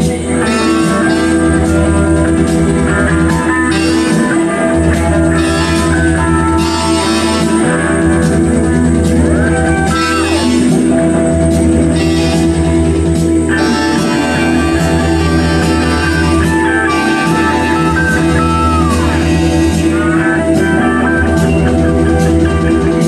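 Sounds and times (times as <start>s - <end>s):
guitar note sliding down: 0.0s - 22.5s
rock music with guitar: 0.0s - 23.0s.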